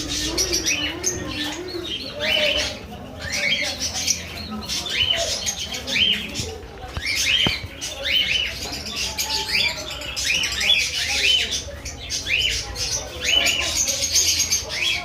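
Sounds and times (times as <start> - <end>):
murmur of voices: 0.0 - 15.0.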